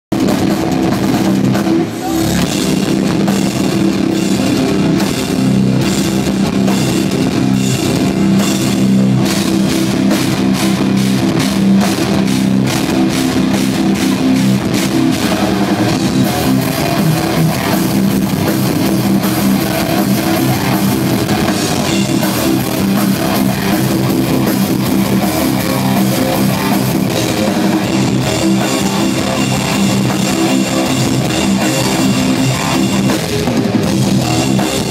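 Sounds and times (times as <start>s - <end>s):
distorted electric guitars: 0.0s - 34.9s
pounding drum kit: 0.1s - 34.9s.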